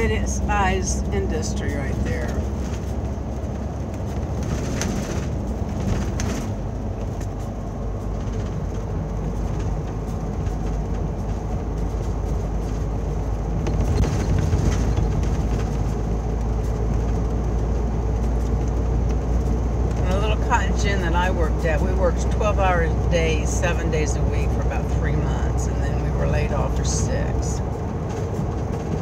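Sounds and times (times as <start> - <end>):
road and engine noise: 0.0 - 29.0.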